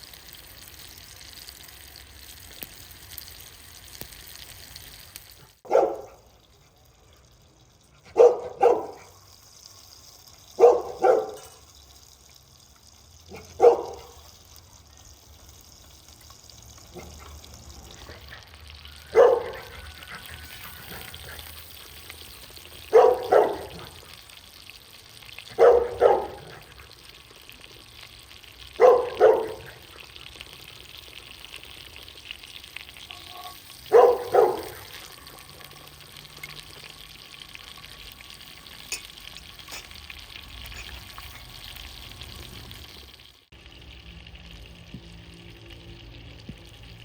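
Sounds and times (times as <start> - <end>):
steak sizzling: 0.0 - 47.0.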